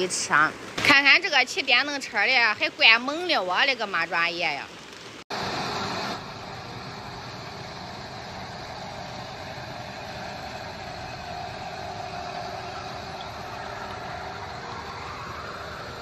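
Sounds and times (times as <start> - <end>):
pump engines droning: 0.0 - 16.0.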